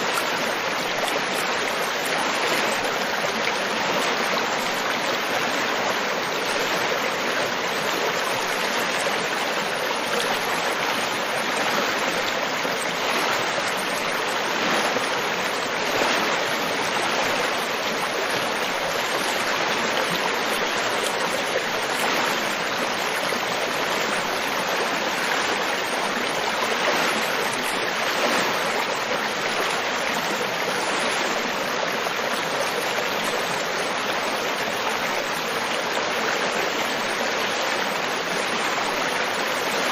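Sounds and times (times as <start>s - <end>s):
stream water rushing and babbling: 0.0s - 39.9s.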